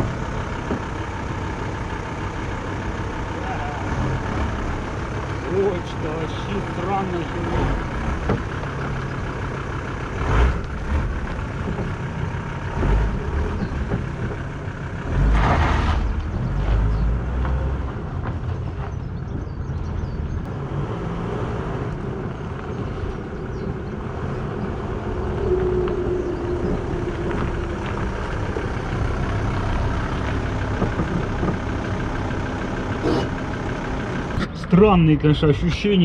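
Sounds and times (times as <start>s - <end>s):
road noise: 0.0s - 36.0s
van engine: 0.0s - 36.0s.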